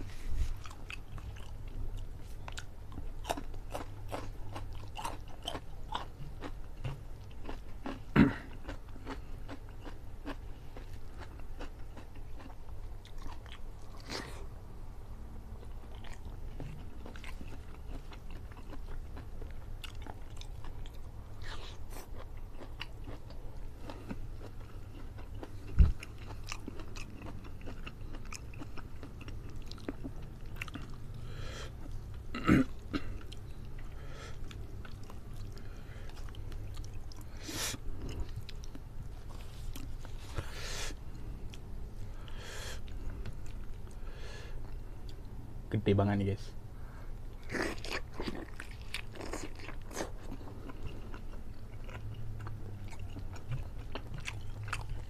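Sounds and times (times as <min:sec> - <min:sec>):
man chewing food: 0:00.0 - 0:45.4, 0:46.8 - 0:55.0
steady low hum: 0:00.0 - 0:55.0.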